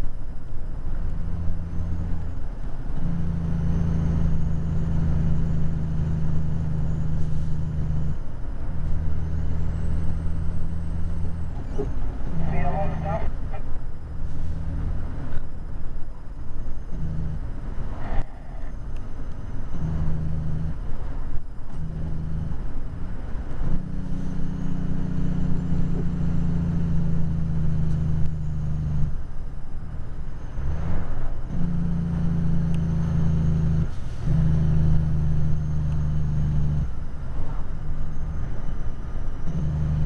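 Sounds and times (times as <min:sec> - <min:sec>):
truck diesel engine drone: 0:00.0 - 0:40.0.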